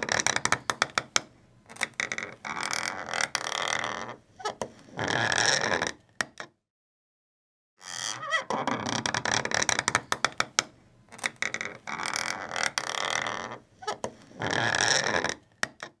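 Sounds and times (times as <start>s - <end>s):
wooden stick creaking in wood: 0.0s - 6.6s, 7.8s - 16.0s.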